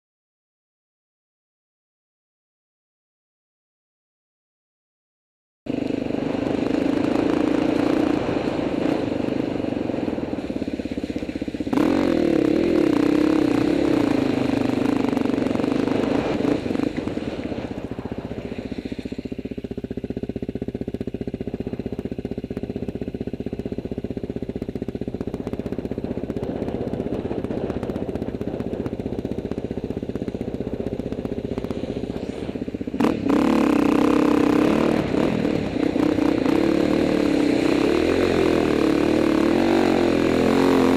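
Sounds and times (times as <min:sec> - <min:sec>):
motorcycle engine revving: 0:05.7 - 0:40.9.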